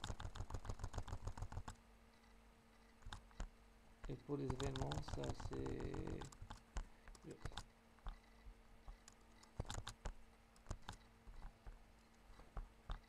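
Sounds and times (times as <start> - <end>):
computer mouse clicks: 0.0 - 13.0
faint steady hum: 0.0 - 13.0.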